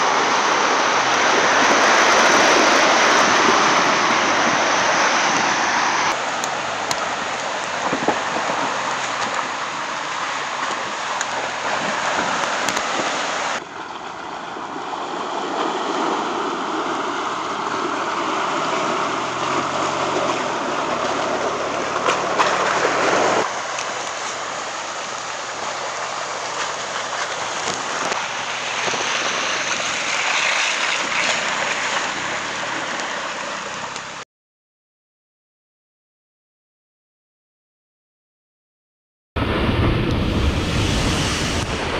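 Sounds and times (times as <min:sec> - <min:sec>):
tyres splashing through mud: 0:00.0 - 0:34.2.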